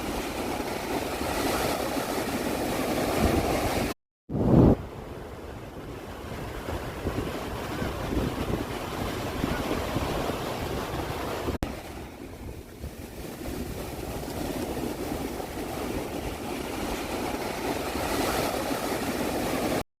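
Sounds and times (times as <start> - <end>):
sea waves breaking on shore: 0.0 - 19.8
wind rumbling on microphone: 0.0 - 19.8.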